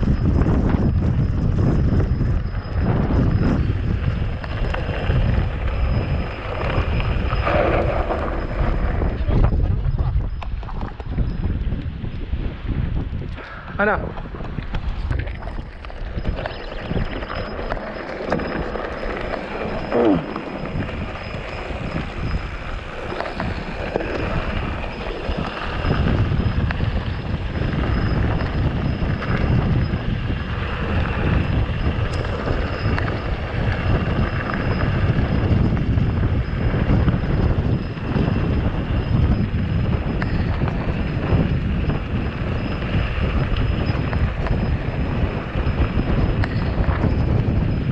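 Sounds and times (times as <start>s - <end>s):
wind buffeting the microphone: 0.0s - 47.9s.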